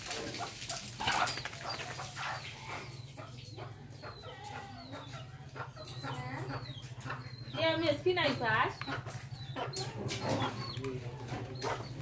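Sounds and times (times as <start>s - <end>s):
parrots squawking and chirping: 0.0s - 12.0s.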